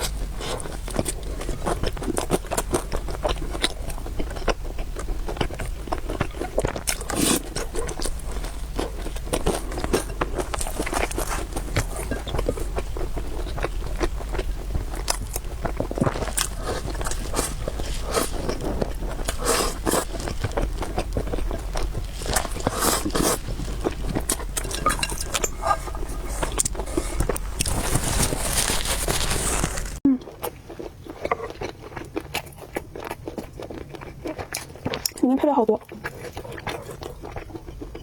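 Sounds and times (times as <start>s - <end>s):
person chewing noodles: 0.0s - 35.2s, 35.8s - 38.0s.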